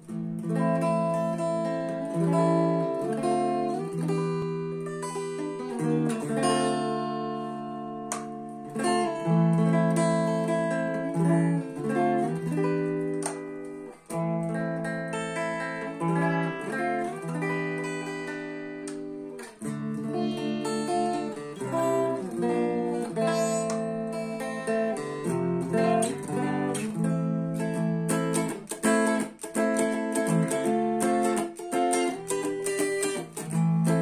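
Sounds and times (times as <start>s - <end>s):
electric guitar notes and chords: 0.0s - 34.0s.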